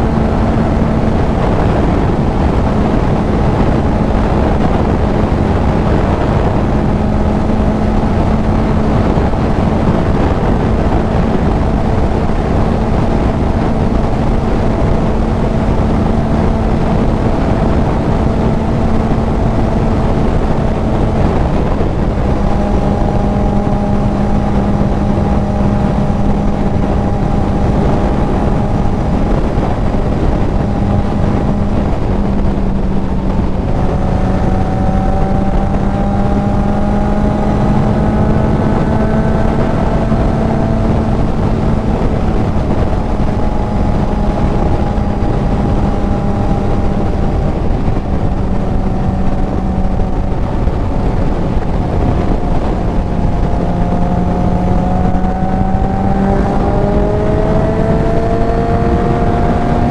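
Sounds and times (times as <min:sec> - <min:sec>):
motorcycle engine cruising: 0:00.0 - 0:59.9
wind rush on microphone: 0:00.0 - 0:59.9.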